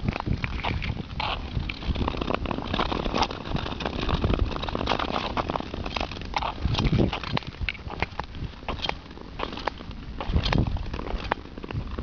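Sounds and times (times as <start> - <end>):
skate blades scraping on ice: 0.0 - 12.0
wind rumble on microphone: 0.0 - 12.0.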